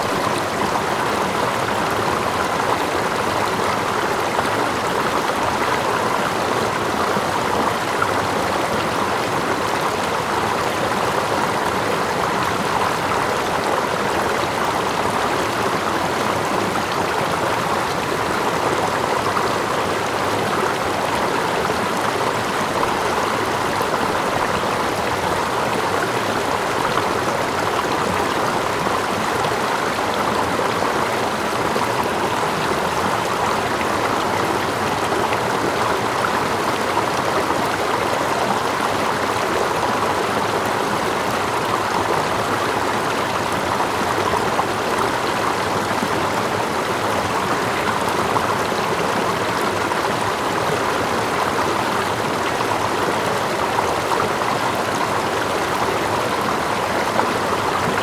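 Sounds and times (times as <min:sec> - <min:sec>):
small waterfall: 0:00.0 - 0:58.0.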